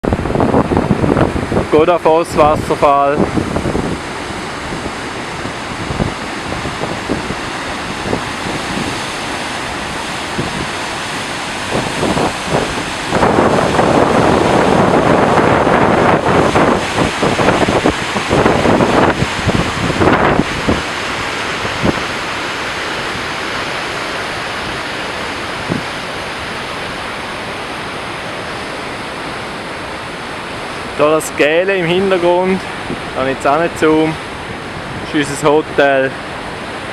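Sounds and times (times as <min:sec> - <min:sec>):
waterfall roaring: 0:00.0 - 0:36.9
wind buffeting microphone: 0:00.0 - 0:36.9.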